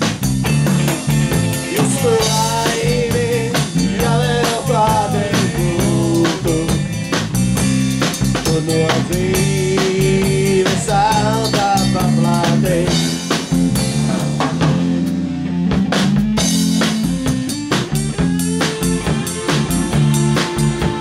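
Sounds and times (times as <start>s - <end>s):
drum kit with cymbals: 0.0s - 21.0s
electric bass guitar: 0.0s - 21.0s.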